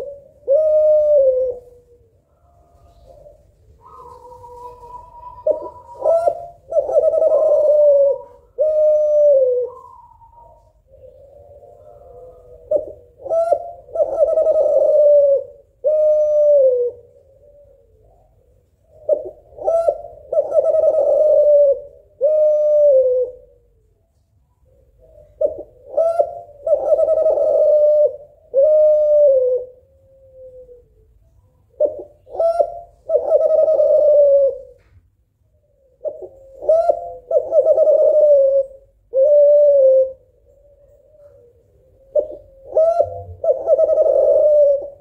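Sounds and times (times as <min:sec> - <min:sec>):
dove cooing: 0:00.0 - 0:23.9, 0:24.5 - 0:45.0.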